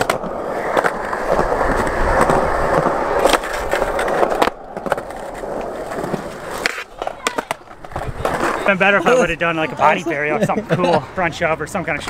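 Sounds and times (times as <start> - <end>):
skateboard clacks: 0.0 - 9.9
skateboard wheels rolling on concrete: 0.0 - 12.0.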